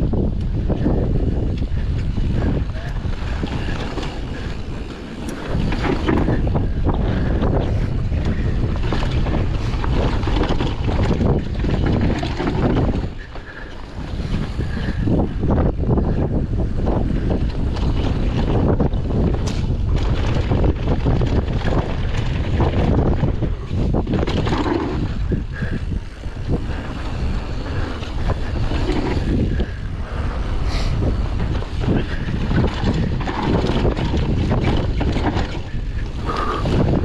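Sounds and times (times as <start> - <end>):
bike rattling over rough ground: 0.0 - 37.0
wind buffeting microphone: 0.0 - 37.0.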